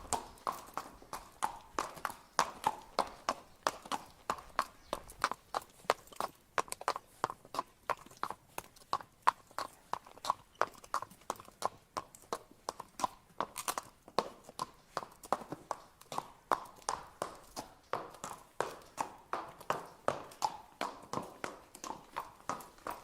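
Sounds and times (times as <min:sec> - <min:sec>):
horse hooves clip-clopping: 0:00.0 - 0:23.0.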